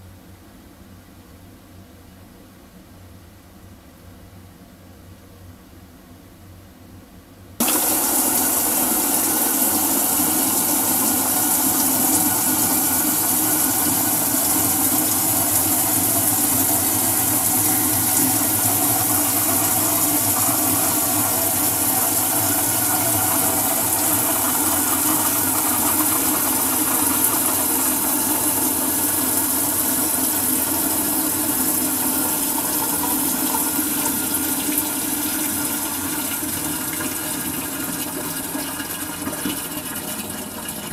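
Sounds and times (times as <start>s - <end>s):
toilet flushing: 7.6s - 40.9s.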